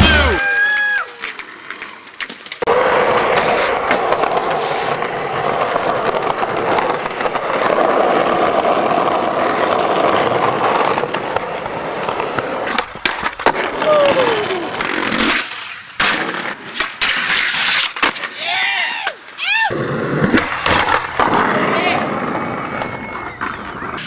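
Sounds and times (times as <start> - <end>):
skateboard wheels on rough pavement: 0.0 - 24.0.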